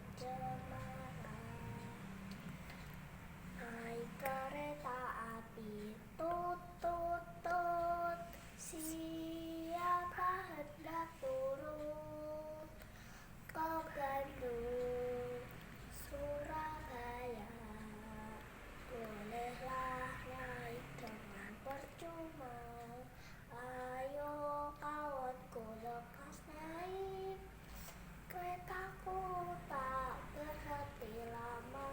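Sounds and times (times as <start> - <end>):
child singing: 0.0 - 2.9, 3.5 - 31.9.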